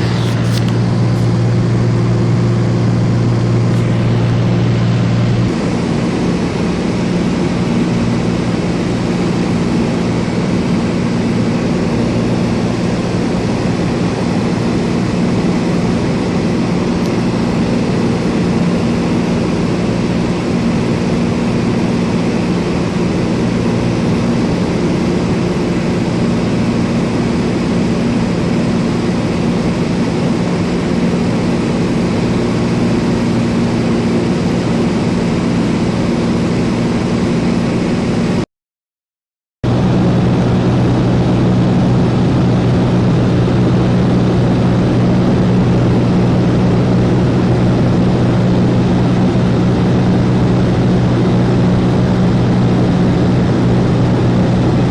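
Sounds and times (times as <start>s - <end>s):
light aircraft engine droning: 0.0s - 38.4s, 39.7s - 54.9s.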